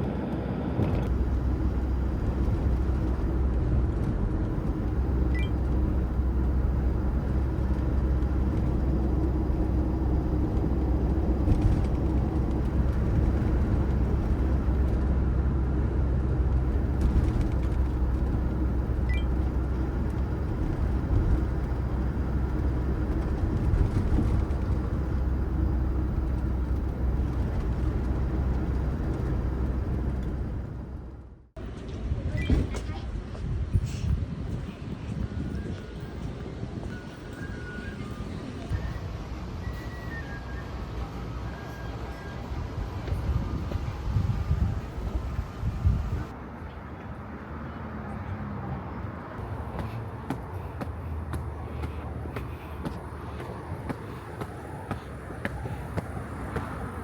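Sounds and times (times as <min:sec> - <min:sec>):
van engine and road rumble: 0:00.0 - 0:57.0.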